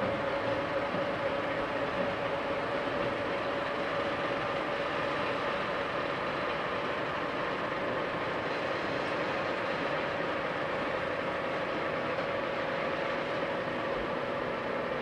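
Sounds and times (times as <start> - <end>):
train rolling noise: 0.0 - 15.0.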